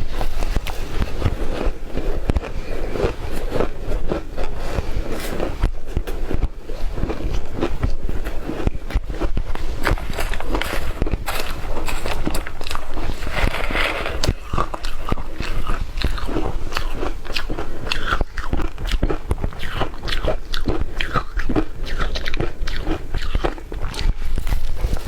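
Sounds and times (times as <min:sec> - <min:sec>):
shaved ice being chewed: 0:00.0 - 0:25.0.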